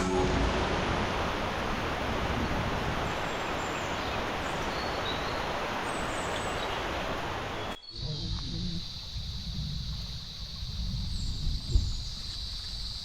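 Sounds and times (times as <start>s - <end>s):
rain forest ambience: 0.0s - 13.0s.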